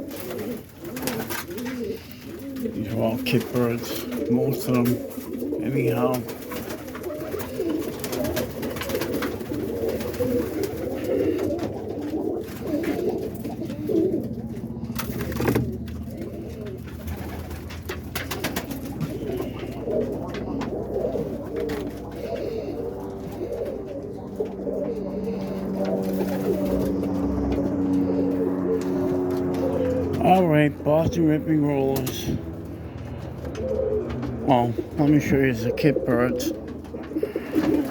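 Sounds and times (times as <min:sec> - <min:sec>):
pigeons cooing: 0:00.0 - 0:37.9.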